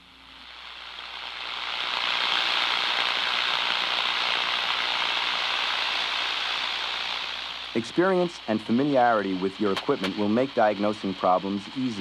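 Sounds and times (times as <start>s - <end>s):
continuous electrical corona hiss: 0.0s - 12.0s.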